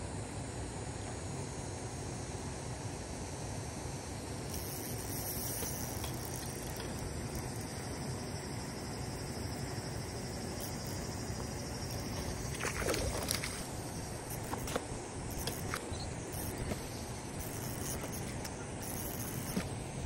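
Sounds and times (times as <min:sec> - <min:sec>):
insects buzzing: 0:00.2 - 0:20.0.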